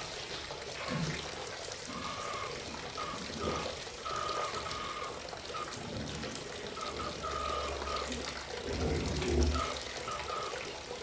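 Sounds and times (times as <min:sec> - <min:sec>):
tap water running into bathtub: 0:00.0 - 0:11.0.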